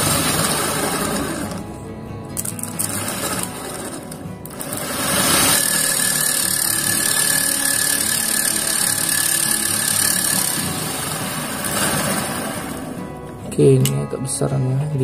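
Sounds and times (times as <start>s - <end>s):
electric motor whirring: 0.0s - 1.7s, 2.4s - 13.1s.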